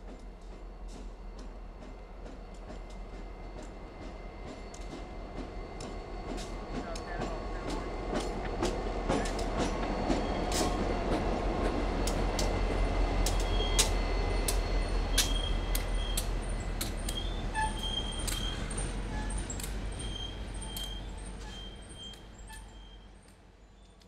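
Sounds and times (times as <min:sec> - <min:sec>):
diesel locomotive rumble: 0:00.0 - 0:24.0
train wheels clicking over rail joints: 0:00.0 - 0:24.0.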